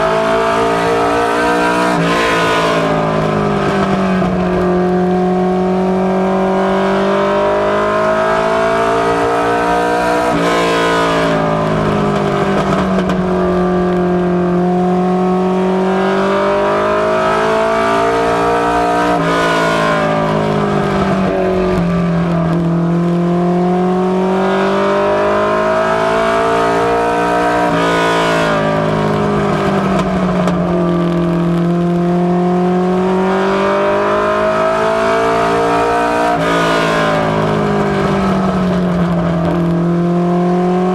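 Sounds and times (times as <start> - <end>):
race car engine revving: 0.0 - 40.9
tyre and road noise: 0.0 - 40.9.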